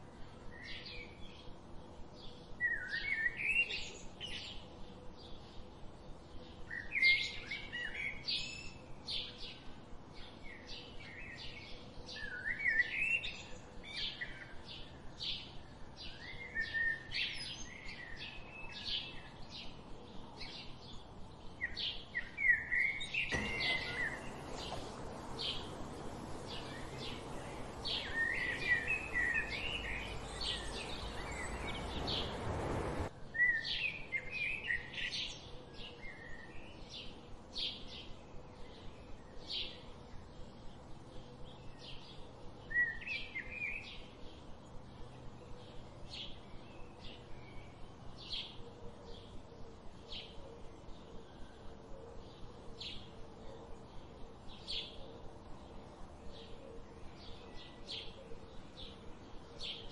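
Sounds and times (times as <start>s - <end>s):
songbirds chirping and singing: 0.0s - 59.9s
steady background hiss: 0.0s - 59.9s.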